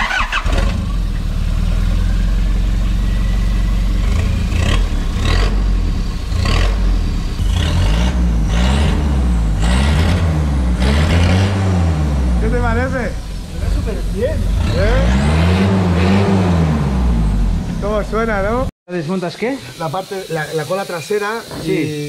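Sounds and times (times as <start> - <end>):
diesel engine revving: 0.0 - 18.7.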